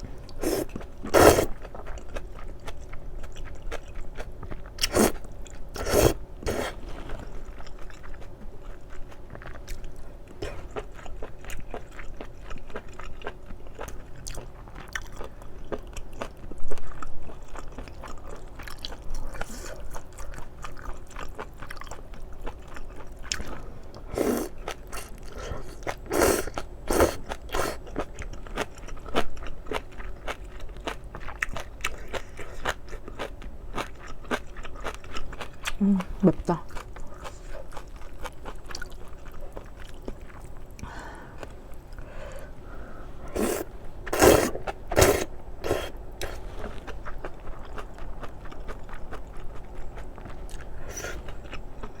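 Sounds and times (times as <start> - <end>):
wet chewing: 0.0 - 52.0.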